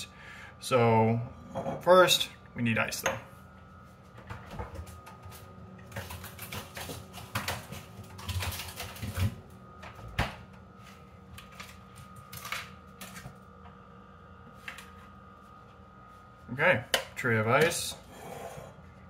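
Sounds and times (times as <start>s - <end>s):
faint steady whine: 0.0s - 19.0s.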